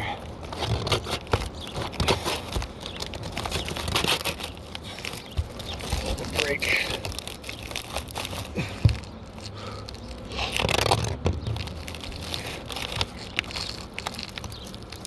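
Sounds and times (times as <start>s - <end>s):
shingles crinkling and scraping: 0.0s - 15.0s.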